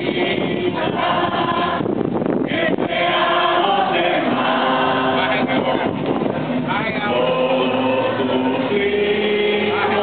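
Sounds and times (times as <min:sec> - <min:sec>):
group singing a hymn: 0:00.0 - 0:10.0.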